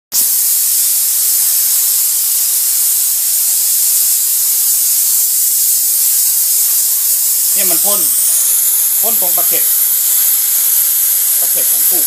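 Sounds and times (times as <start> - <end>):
steam nozzle hissing: 0.1 - 12.0.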